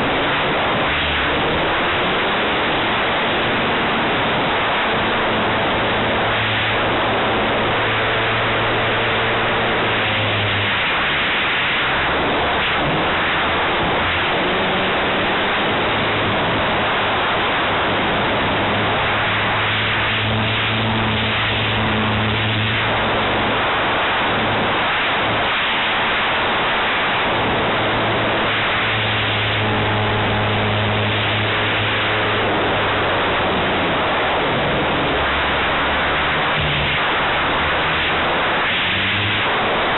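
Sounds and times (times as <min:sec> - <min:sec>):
propeller noise: 0:00.0 - 0:39.9
wind rush: 0:00.0 - 0:39.9.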